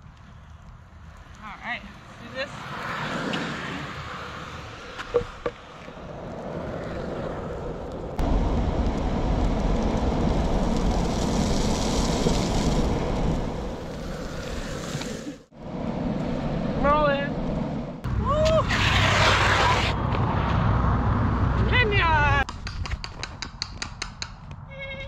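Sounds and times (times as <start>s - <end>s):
wheels rolling on asphalt: 0.0s - 22.5s.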